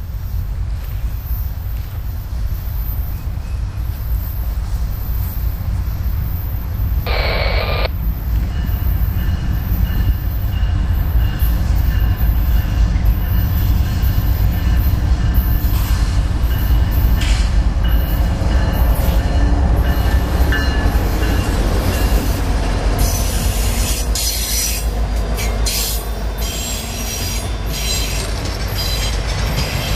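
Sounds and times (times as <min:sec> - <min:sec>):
diesel locomotives rumbling: 0:00.0 - 0:29.9.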